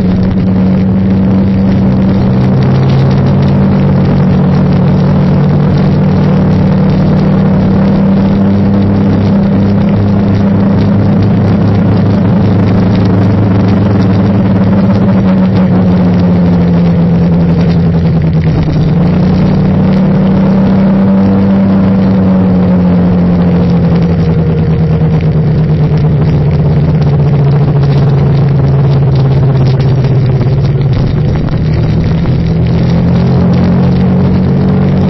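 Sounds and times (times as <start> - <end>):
road and wind noise: 0.0 - 35.0
vehicle engine humming: 0.0 - 35.0.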